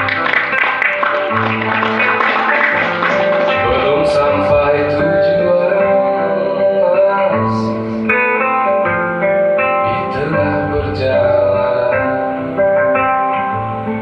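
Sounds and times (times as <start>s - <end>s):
nylon-string acoustic guitar: 0.0s - 14.0s.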